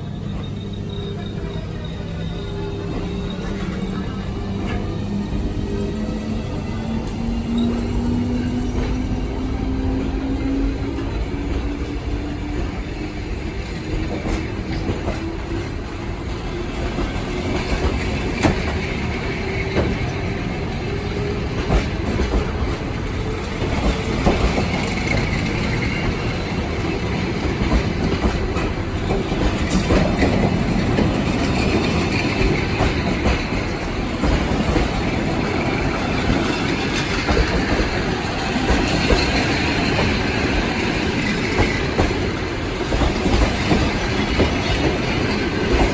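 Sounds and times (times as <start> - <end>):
train rumble: 0.0 - 45.9
train wheels clicking over rail joints: 2.9 - 45.9.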